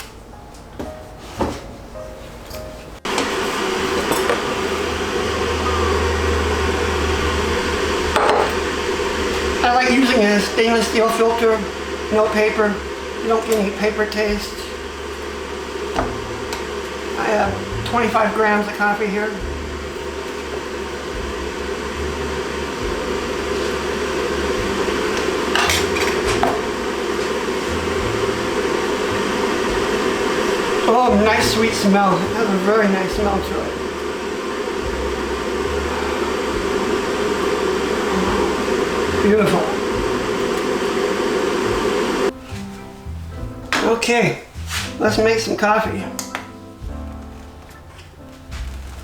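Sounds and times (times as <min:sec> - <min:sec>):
electric appliance humming and whirring: 0:02.5 - 0:42.8, 0:43.4 - 0:49.0.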